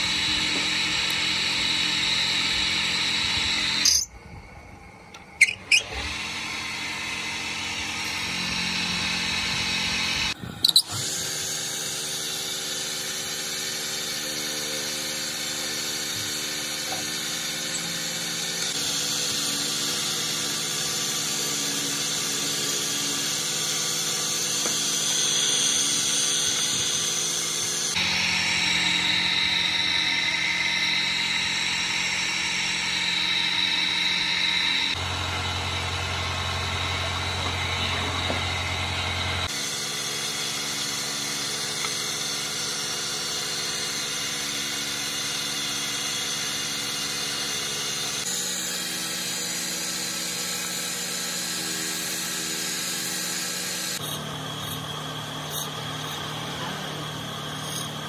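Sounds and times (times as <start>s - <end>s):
wood lathe humming with hiss: 0.0s - 4.1s, 4.7s - 58.0s.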